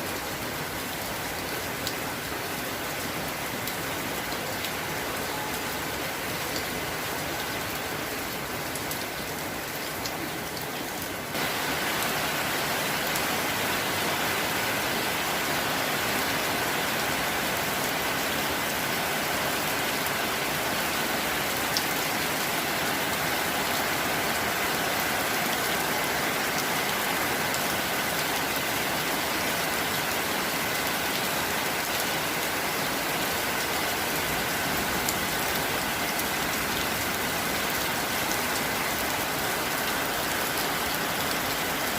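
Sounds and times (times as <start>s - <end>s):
rain falling steadily: 0.0s - 41.9s.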